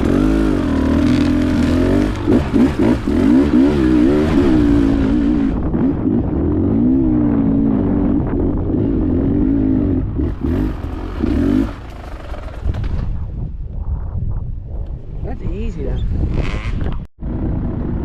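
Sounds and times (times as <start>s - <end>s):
dirt bike engine revving: 0.0s - 12.8s, 16.2s - 18.0s.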